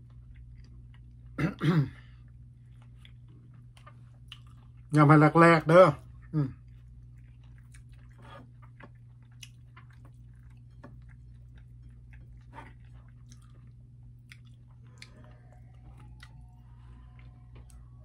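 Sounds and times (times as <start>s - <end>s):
man chewing food: 0.0s - 5.0s, 6.0s - 18.0s
steady low hum: 0.0s - 18.0s.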